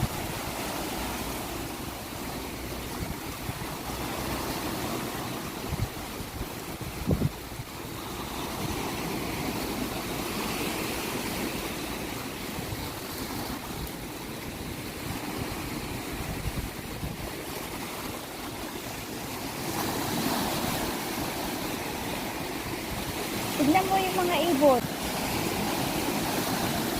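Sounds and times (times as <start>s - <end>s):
ocean waves washing: 0.0s - 26.9s.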